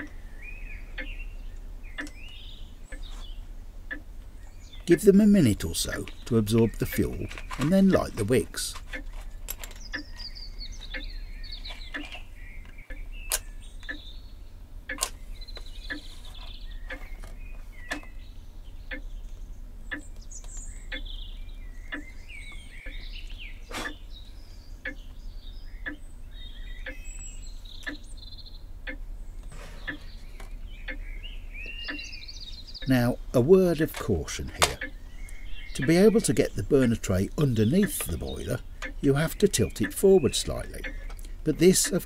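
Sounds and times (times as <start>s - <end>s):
light ticks: 0.0s - 0.2s, 1.0s - 3.2s, 3.8s - 14.1s, 14.9s - 18.2s, 18.9s - 21.1s, 21.9s - 24.2s, 25.8s - 26.1s, 26.8s - 31.0s, 31.6s - 42.0s
low steady hum: 0.0s - 42.0s
small birds chirping: 0.0s - 42.0s.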